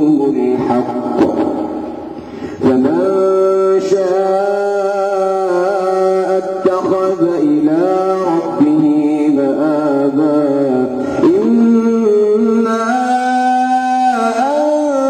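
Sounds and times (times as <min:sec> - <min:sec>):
man chanting melismatic recitation: 0:00.0 - 0:15.0.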